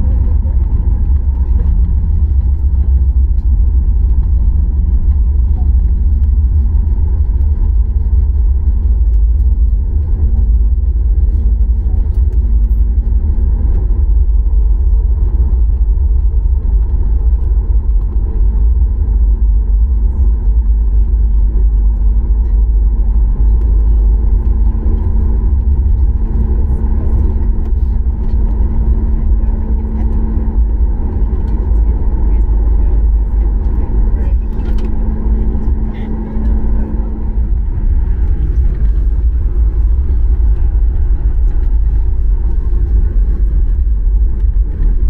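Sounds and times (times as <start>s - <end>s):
steady cabin hum: 0.0s - 45.0s
wheels rumbling on runway: 0.0s - 45.0s.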